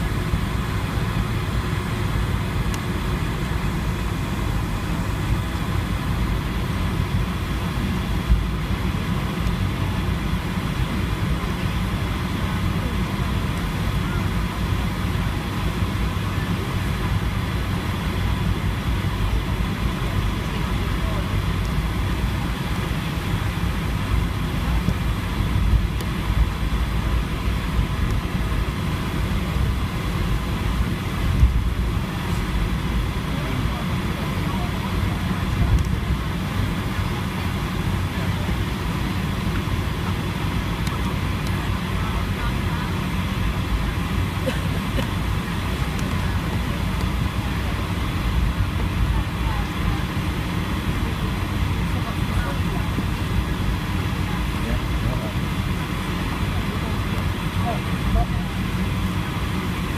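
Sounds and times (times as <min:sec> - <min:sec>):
jet engine rumble from cabin: 0:00.0 - 0:59.9.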